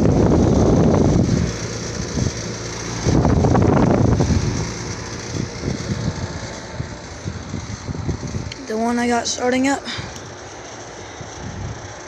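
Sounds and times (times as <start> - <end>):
air conditioner rattling: 0.0 - 12.0.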